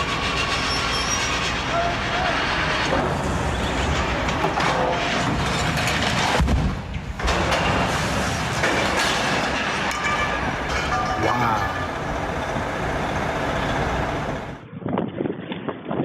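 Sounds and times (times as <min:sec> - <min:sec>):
train running on track: 0:00.0 - 0:14.6.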